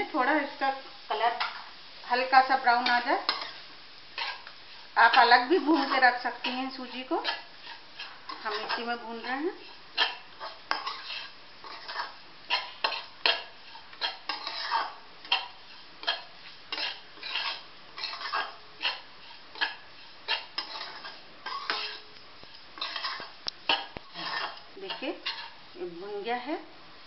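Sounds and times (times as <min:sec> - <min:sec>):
spatula scraping metal pan: 0:02.4 - 0:25.6.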